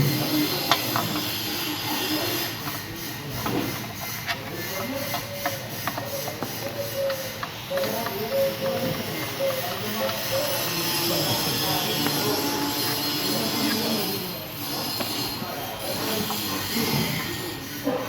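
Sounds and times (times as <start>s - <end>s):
faint voices: 0.0s - 18.0s.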